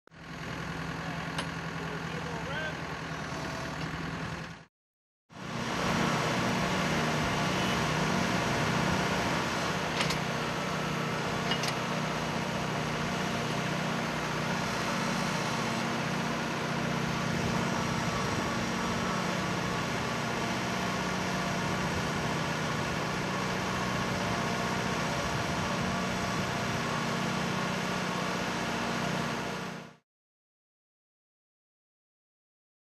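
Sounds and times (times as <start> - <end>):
tractor engine running: 0.2 - 4.7, 5.4 - 30.0.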